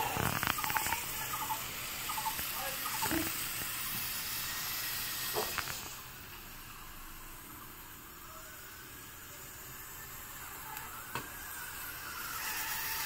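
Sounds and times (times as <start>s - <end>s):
gas burner flame hissing: 0.0s - 13.0s.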